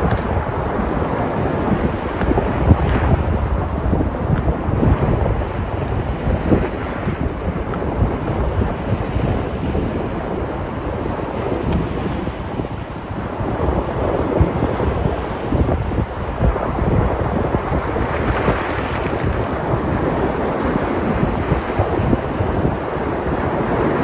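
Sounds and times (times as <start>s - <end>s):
waves breaking on shore: 0.0s - 24.0s
wind buffeting microphone: 0.0s - 24.0s.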